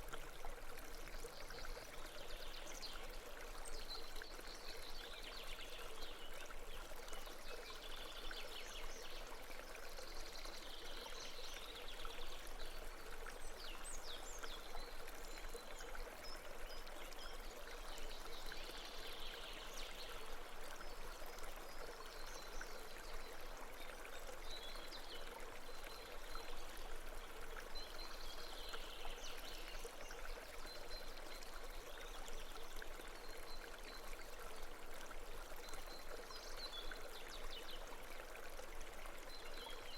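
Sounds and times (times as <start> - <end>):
brook running water: 0.0 - 39.9.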